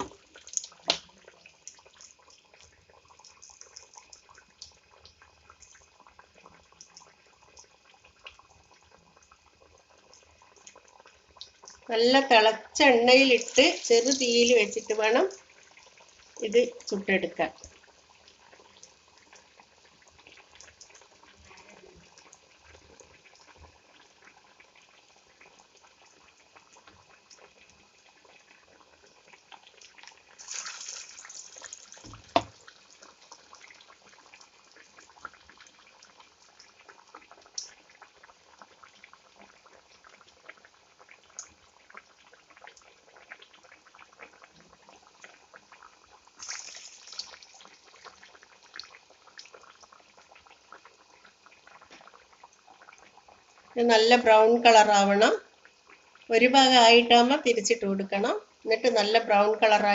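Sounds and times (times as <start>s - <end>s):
food frying in hot oil: 0.0s - 59.9s.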